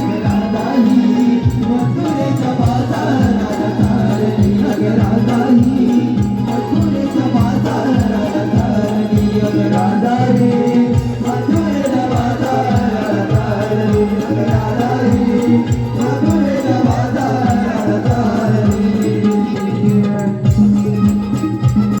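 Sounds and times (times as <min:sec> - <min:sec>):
drum strokes: 0:00.0 - 0:22.0
jingling percussion: 0:00.0 - 0:22.0
person singing: 0:00.0 - 0:22.0.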